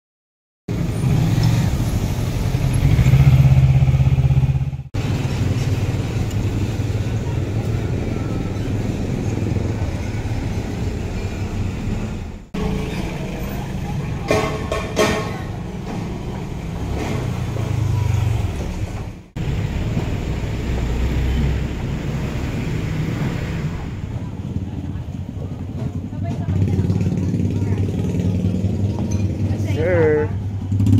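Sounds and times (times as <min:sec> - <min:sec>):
engine low rumble: 0:00.7 - 0:30.9.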